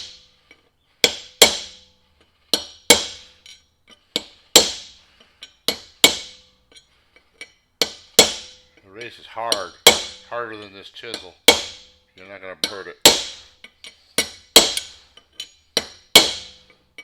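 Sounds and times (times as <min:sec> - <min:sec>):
hammer striking steel chisel: 0:01.0 - 0:17.0.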